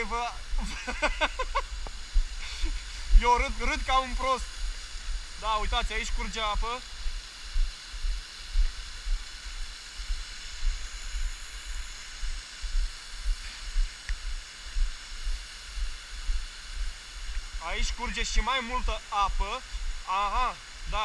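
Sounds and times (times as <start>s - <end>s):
running water hiss: 0.0s - 21.0s.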